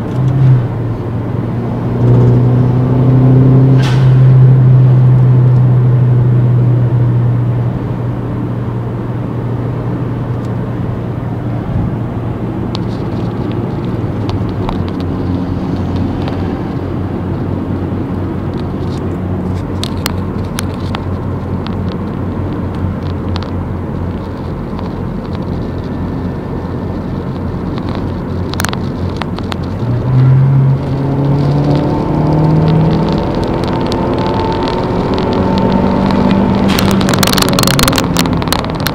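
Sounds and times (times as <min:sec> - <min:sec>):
car engine through exhaust: 0:00.0 - 0:38.9.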